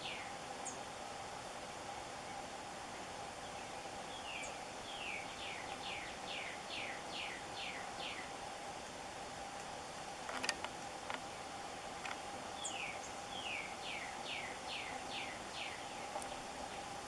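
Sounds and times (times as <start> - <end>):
faint hum: 0.0 - 17.0
outdoor hiss: 0.0 - 17.0.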